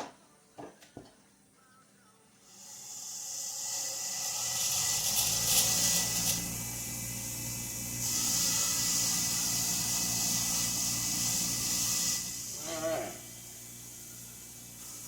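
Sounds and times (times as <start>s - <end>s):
cleaning tool hissing: 2.4s - 15.0s.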